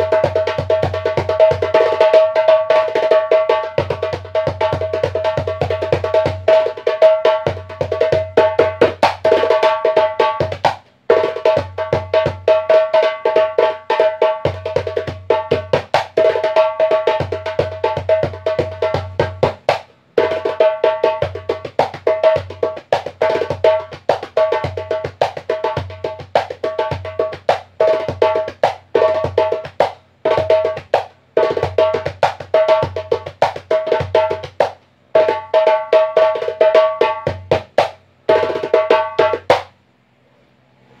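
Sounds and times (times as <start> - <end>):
djembe played by hand: 0.0 - 39.7.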